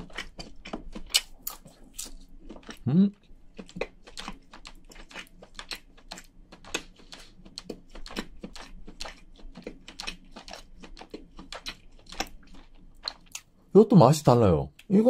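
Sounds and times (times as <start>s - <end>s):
wet chewing mouth clicks: 0.0s - 13.5s.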